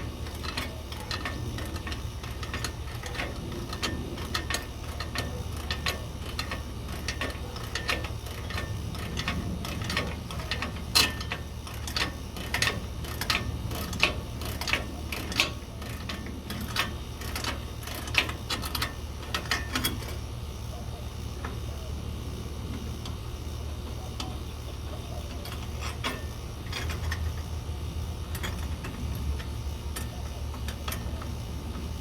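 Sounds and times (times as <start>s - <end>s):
ratchet wrench clicking: 0.0s - 20.2s, 25.2s - 32.0s
steady low hum: 0.0s - 32.0s.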